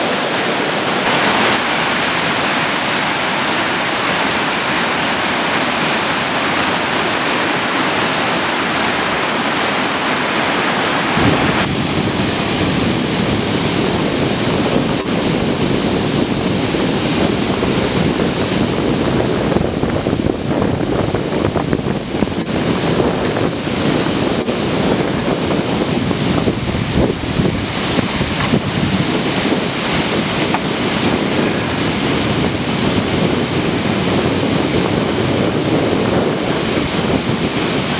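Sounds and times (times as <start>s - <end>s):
whitewater rushing over weir: 0.0s - 37.9s
wind buffeting microphone: 0.0s - 37.9s.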